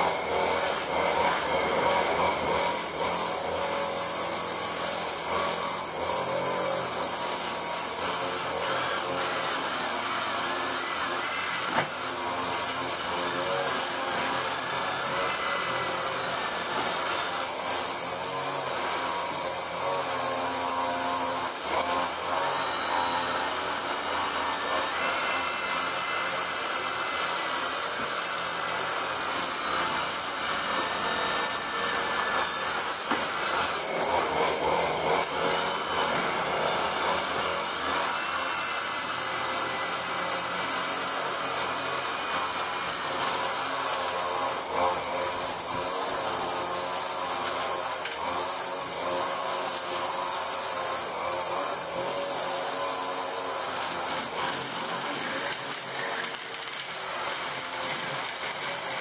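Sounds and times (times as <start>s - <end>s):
small electric power tool running: 0.0s - 59.0s.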